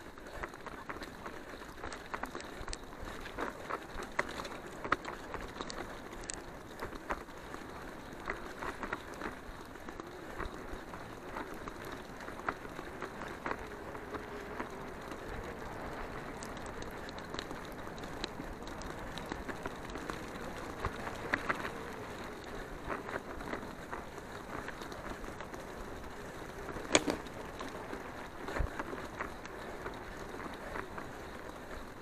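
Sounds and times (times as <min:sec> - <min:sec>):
bicycle tyres on dirt: 0:00.0 - 0:32.0
bike clicks and rattles: 0:00.0 - 0:32.0.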